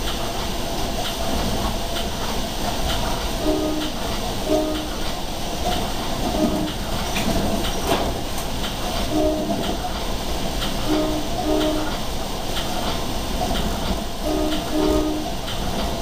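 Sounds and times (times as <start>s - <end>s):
train coach rumble: 0.0s - 16.0s
wheels clicking over rail joints: 0.0s - 16.0s.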